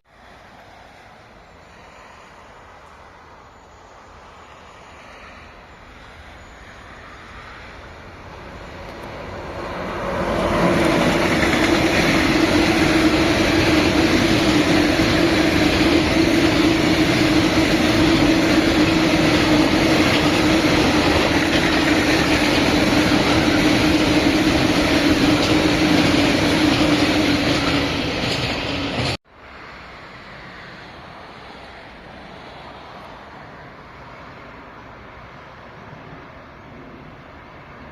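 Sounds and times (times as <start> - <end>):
train passing: 0.1 - 37.9.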